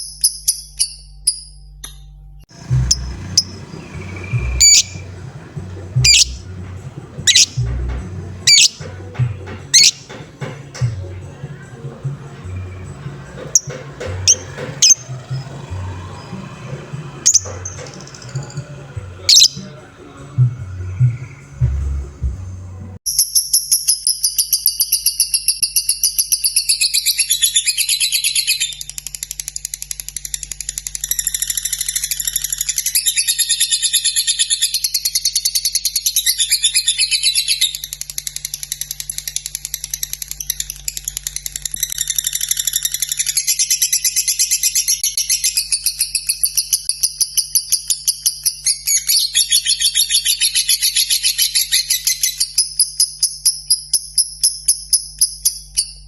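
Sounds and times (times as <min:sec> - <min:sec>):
lovebird chattering song: 0:02.6 - 0:56.0.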